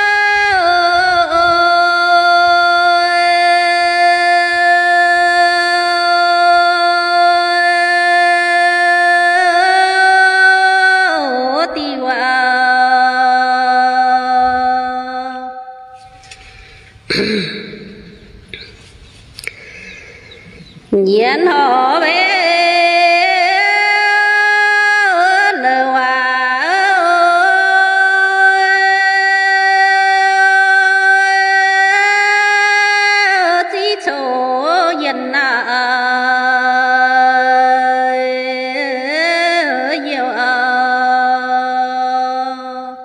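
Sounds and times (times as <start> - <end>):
woman singing unaccompanied: 0.0 - 16.0, 20.9 - 43.0.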